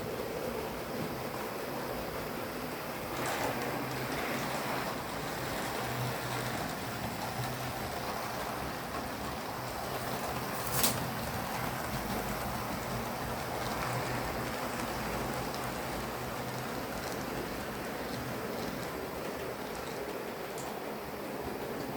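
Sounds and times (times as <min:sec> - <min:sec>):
wheels rushing on rails: 0:00.0 - 0:21.9.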